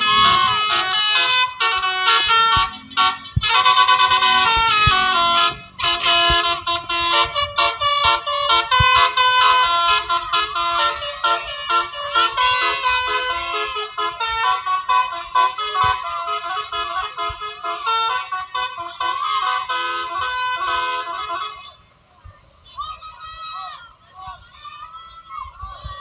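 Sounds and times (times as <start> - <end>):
multi-tone bus horns playing tunes: 0.0 - 21.8.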